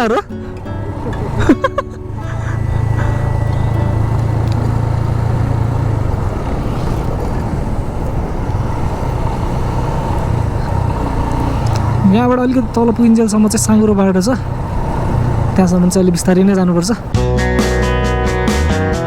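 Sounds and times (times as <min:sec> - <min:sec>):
motorcycle engine drone: 0:00.0 - 0:18.7
wind and road noise: 0:00.0 - 0:19.0.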